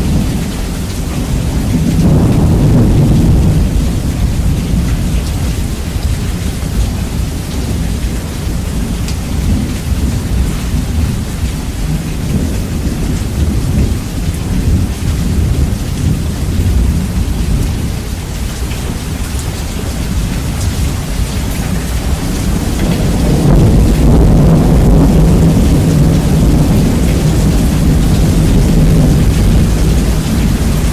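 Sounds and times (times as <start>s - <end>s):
heavy rain: 0.0s - 30.9s
raindrop patter: 0.0s - 30.9s
rolling thunder: 0.0s - 30.9s.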